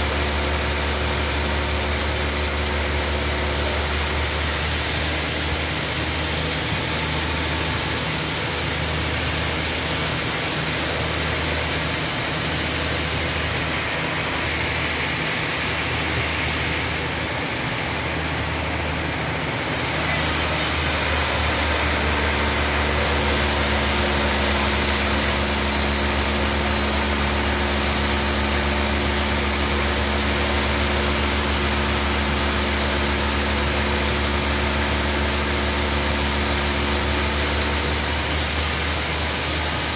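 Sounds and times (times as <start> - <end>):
bandsaw blade sawing log: 0.0 - 39.9.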